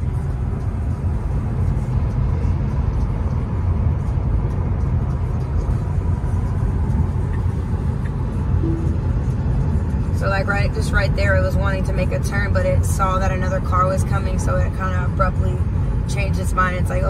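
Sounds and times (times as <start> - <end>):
tyre and road noise in car: 0.0 - 17.0.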